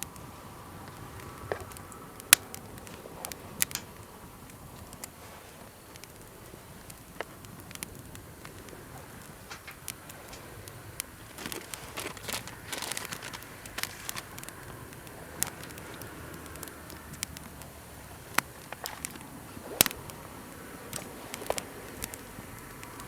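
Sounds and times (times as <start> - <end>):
campfire crackling and popping: 0.0 - 23.0
low steady hiss: 0.0 - 23.0.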